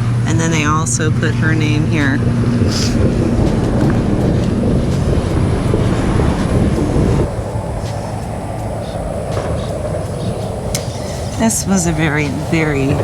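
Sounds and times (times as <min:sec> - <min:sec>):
ragged low rumble: 0:00.0 - 0:13.0.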